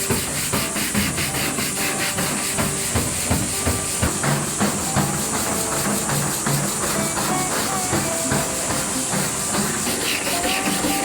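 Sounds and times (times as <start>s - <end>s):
hand scrubbing painted steel: 0.0s - 11.0s
steady high hiss: 0.0s - 11.0s.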